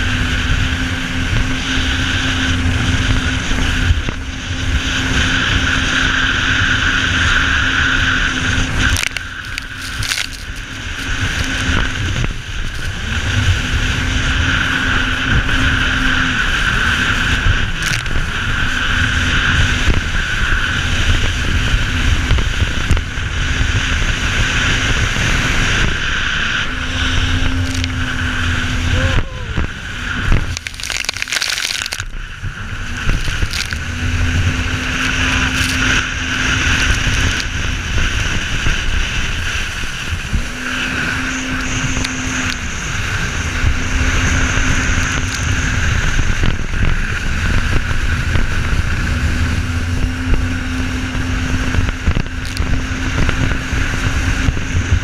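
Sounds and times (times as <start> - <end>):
jet ski engine: 0.0 - 55.0
wind buffeting on microphone: 0.0 - 55.0.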